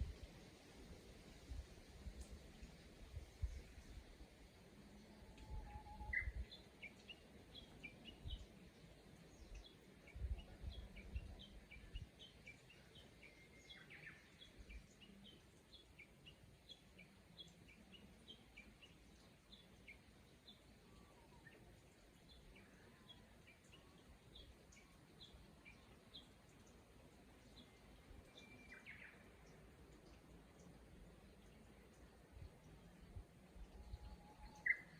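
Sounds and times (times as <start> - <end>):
small birds chirping: 5.9 - 34.9.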